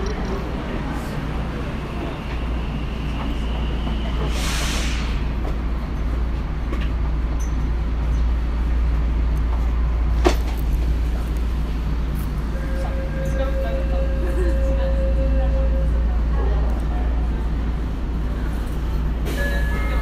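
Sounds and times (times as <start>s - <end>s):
subway train humming: 0.0s - 20.0s.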